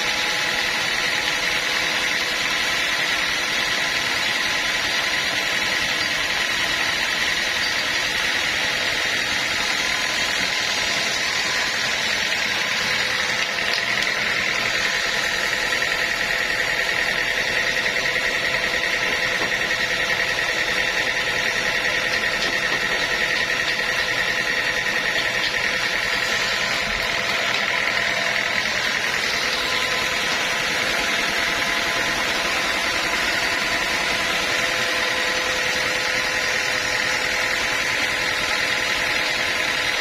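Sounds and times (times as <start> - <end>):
high machine whine: 0.0 - 40.0
sawmill machinery drone: 0.0 - 40.0.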